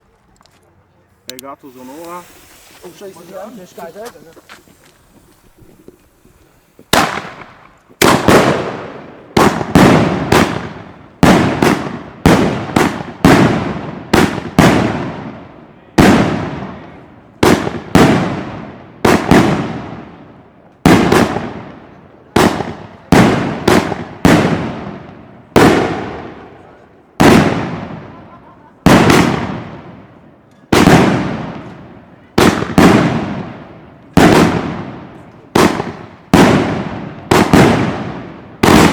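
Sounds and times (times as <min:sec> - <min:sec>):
firework bangs echoing: 0:01.5 - 0:38.9.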